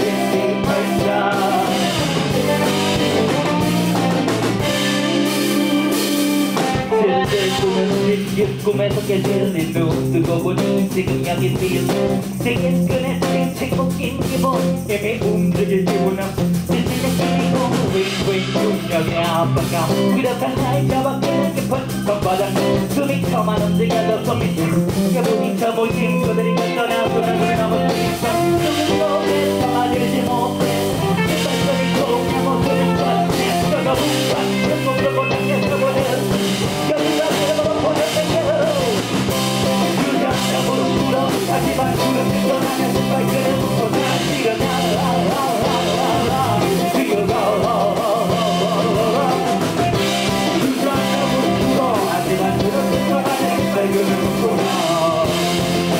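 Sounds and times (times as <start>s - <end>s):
person rapping: 0.0s - 3.0s, 6.9s - 55.4s
bass guitar: 0.0s - 55.9s
drums: 0.0s - 55.9s
electric guitar: 0.0s - 55.9s.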